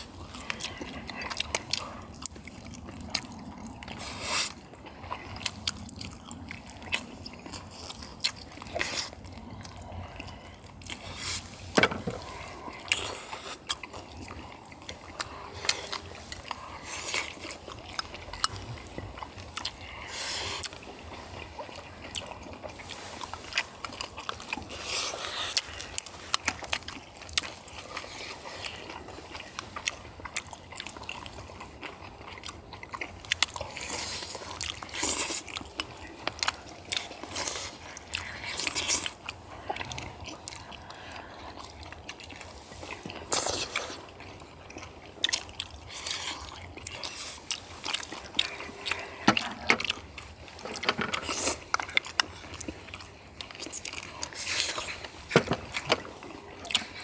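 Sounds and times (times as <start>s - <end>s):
people chewing: 0.0s - 57.0s.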